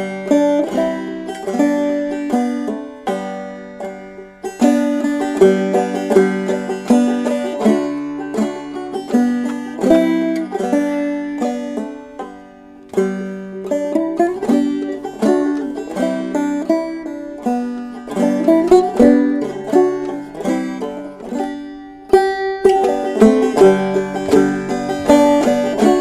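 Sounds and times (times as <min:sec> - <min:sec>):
banjo plucked notes: 0:00.0 - 0:26.0.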